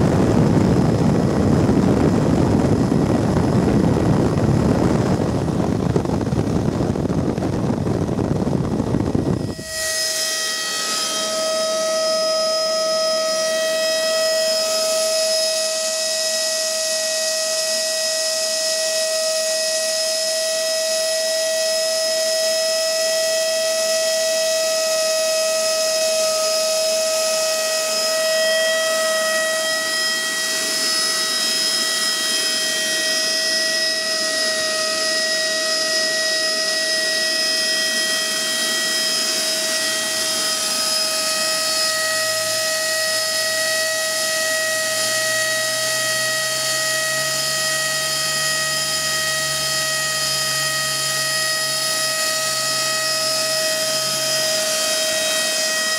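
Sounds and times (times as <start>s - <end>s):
electric motor and propeller whine: 0.0s - 55.9s.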